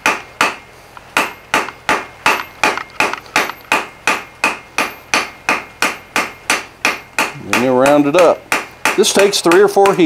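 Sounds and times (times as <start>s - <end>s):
hammer striking steel on anvil: 0.0s - 10.0s.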